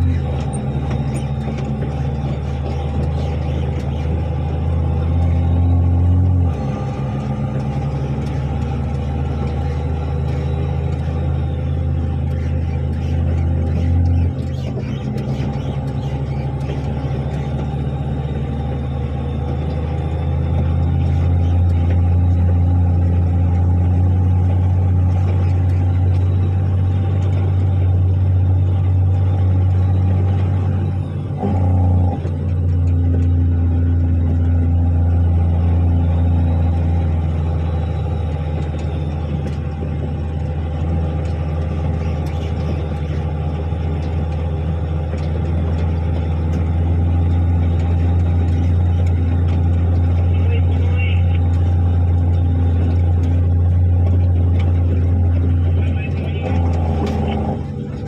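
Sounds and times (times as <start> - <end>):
dump truck diesel engine running: 0.0 - 58.0.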